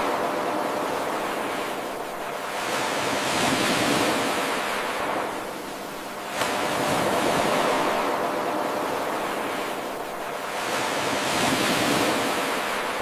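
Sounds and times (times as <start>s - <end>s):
ocean waves washing ashore: 0.0s - 13.0s.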